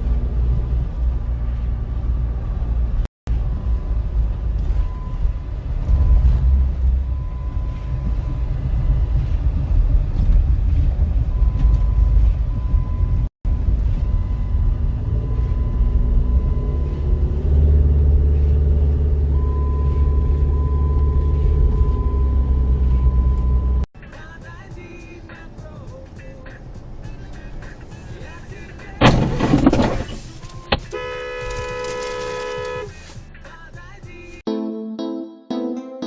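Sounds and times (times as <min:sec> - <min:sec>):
car engine and road rumble: 0:00.0 - 0:34.5.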